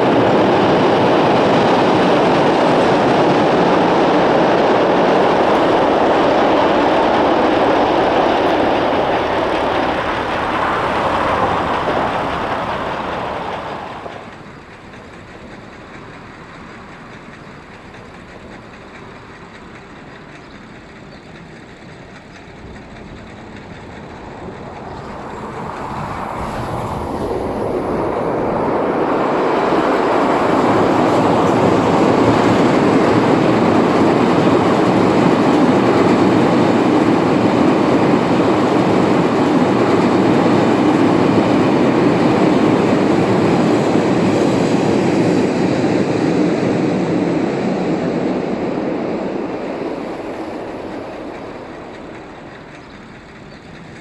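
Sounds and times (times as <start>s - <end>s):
train rushing on rails: 0.0s - 54.0s.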